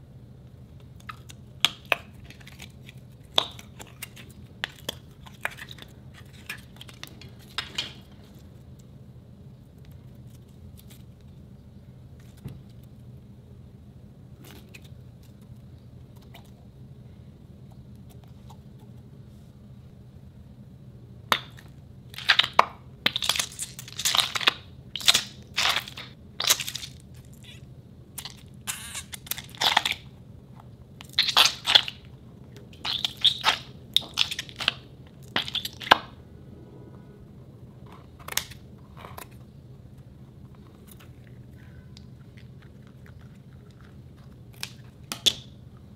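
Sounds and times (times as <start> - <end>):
faint low hum: 0.0 - 45.9.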